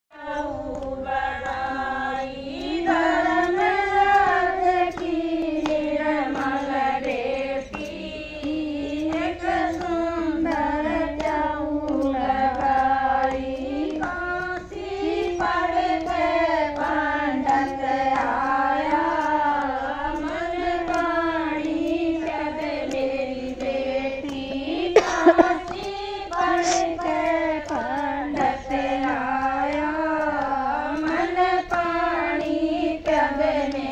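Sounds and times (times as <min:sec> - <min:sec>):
women singing in unison: 0:00.1 - 0:33.9
hand claps: 0:00.2 - 0:33.9.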